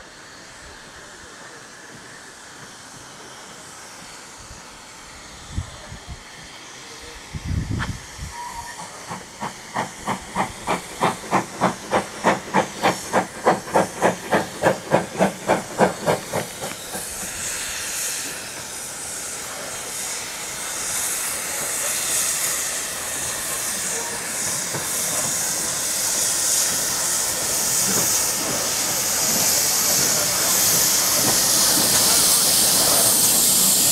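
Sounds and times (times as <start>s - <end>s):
steam hissing: 0.0s - 33.9s
steam locomotive chuffing: 0.0s - 33.9s.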